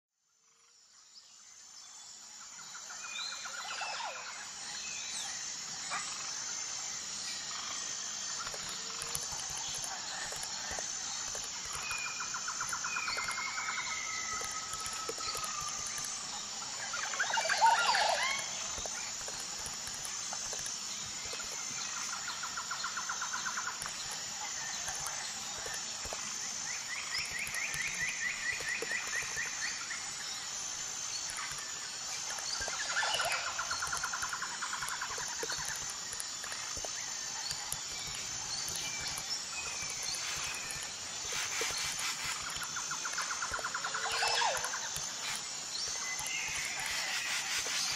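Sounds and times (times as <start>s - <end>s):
pulsing insect chirring: 0.3s - 47.9s
birds trilling and calling: 5.6s - 47.9s.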